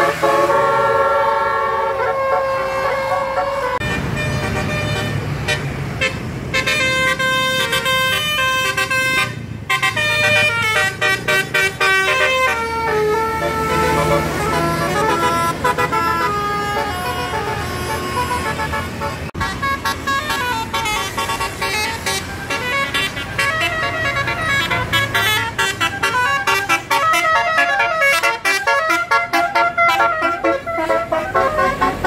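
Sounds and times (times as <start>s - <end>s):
bus musical horn playing a tune: 0.0s - 32.0s.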